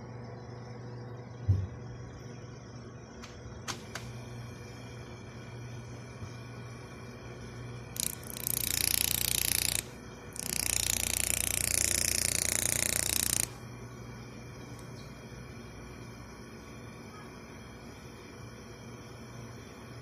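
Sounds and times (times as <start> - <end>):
fan motor whirring hiss: 0.0 - 20.0
low electrical hum: 0.0 - 20.0.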